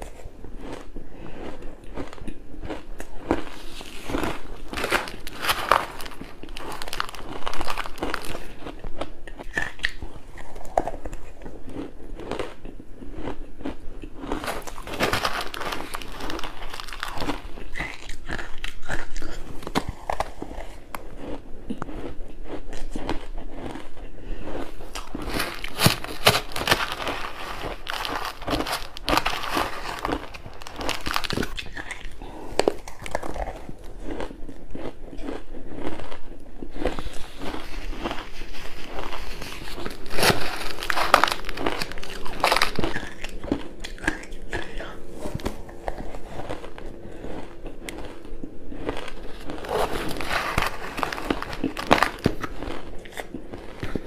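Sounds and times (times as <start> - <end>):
person crunching ice: 0.0 - 54.0.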